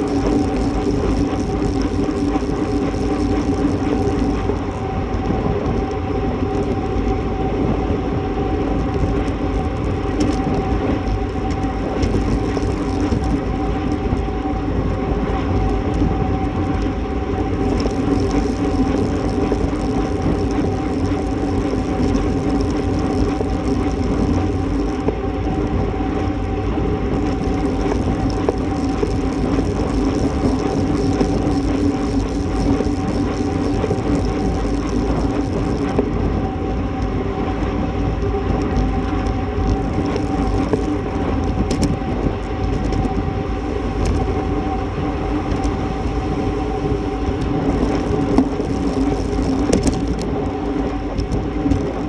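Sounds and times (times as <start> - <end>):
bike tyre noise on road: 0.0 - 52.0
low hum: 0.0 - 52.0
wind rush: 0.0 - 52.0.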